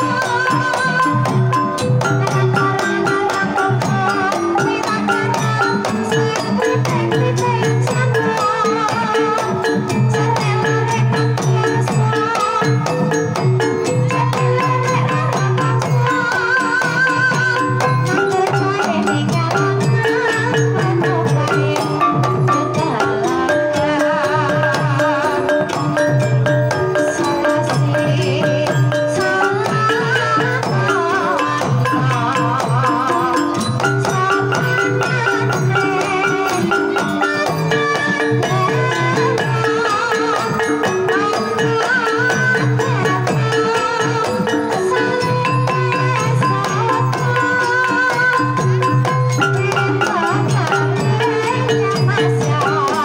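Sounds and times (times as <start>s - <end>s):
hand drum rhythm: 0.0s - 53.0s
wavering high melody: 0.0s - 53.0s.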